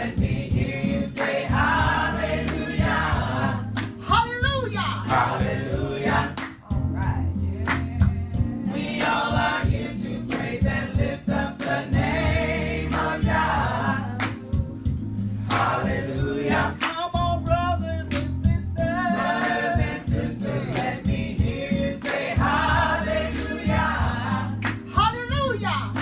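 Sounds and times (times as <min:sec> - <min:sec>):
choir singing gospel: 0:00.0 - 0:06.8, 0:07.4 - 0:25.2
bass line: 0:00.0 - 0:26.0.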